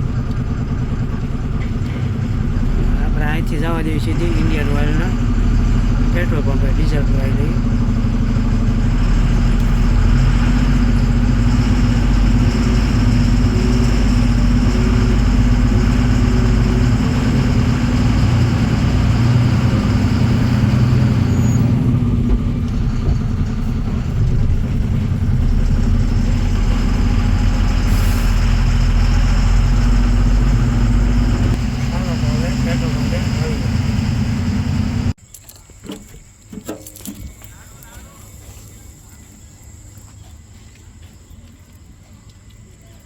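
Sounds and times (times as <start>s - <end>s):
truck diesel engine drone: 0.0s - 35.2s.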